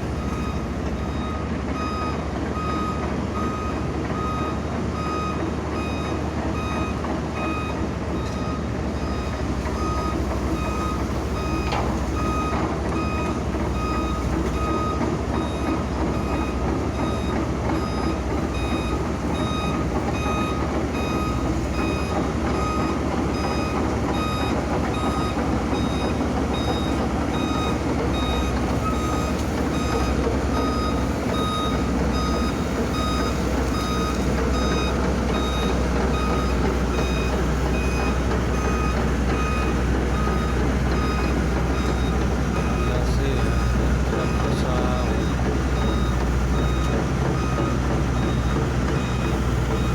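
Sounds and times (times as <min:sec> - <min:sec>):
heavy machinery engines rumbling: 0:00.0 - 0:49.9
backup alarm beeping: 0:00.2 - 0:49.9.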